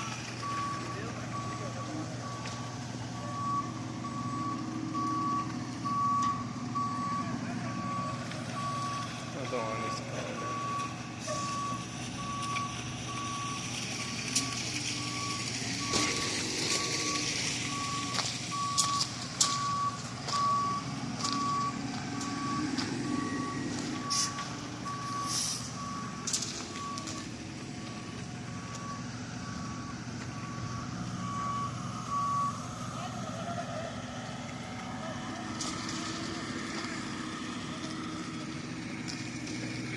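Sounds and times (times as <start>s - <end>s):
truck backup alarm beeping: 0.0s - 34.1s
diesel engine running: 0.0s - 39.9s.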